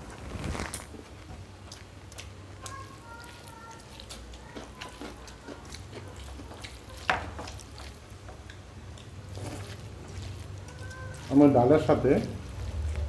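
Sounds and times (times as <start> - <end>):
wet mixing of food by hand: 0.0 - 13.0.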